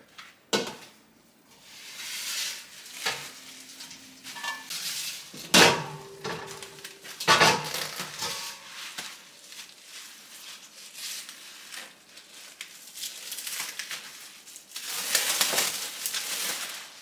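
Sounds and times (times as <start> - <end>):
plastic bags crinkling: 2.6 - 17.0.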